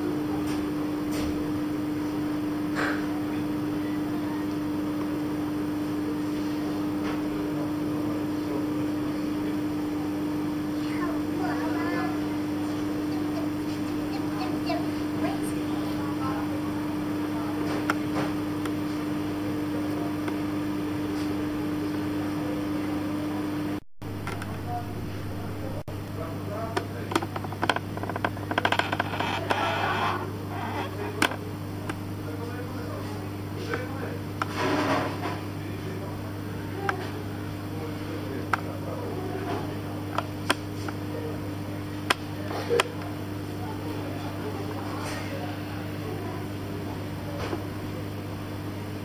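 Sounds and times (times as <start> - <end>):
machine hum: 7.4 - 47.3.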